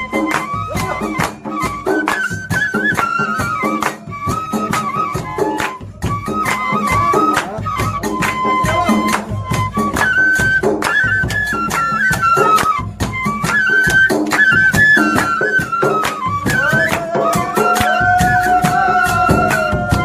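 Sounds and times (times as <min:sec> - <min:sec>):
bamboo flute melody: 0:00.0 - 0:20.0
dhol drum beating: 0:00.0 - 0:20.0.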